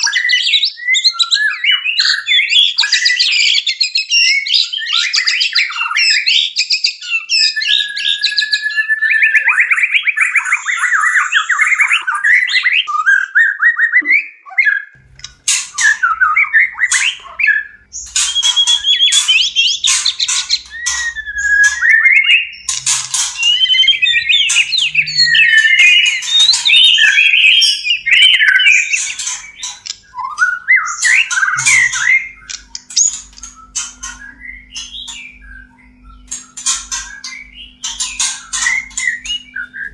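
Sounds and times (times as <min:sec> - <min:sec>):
bird song whistles and trills: 0:00.0 - 0:39.9.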